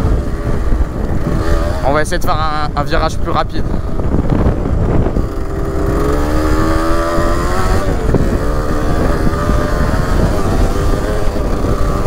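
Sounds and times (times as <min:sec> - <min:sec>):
dirt bike engine accelerating: 0:00.0 - 0:12.0
wind rumbling on microphone: 0:00.0 - 0:12.0.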